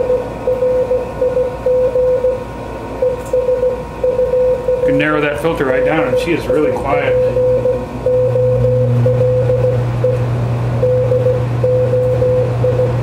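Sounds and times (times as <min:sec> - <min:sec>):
morse code beeps: 0:00.0 - 0:02.4, 0:03.0 - 0:13.0
steady low hum: 0:00.0 - 0:13.0.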